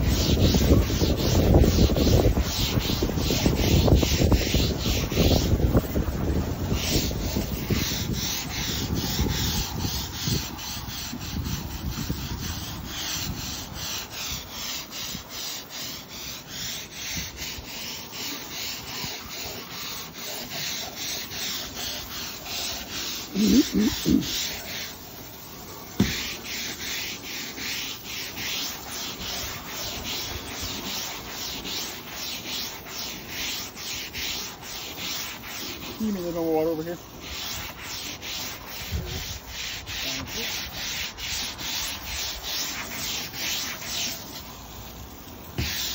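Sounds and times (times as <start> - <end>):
brush scrubbing wet decking: 0.0 - 45.9.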